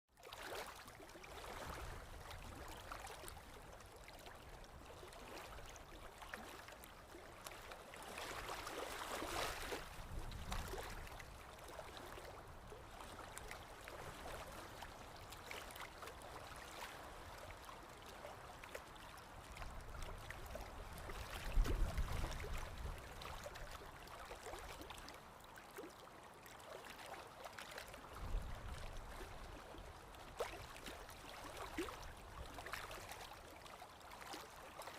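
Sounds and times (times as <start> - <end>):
stream babbling: 0.4 - 34.9.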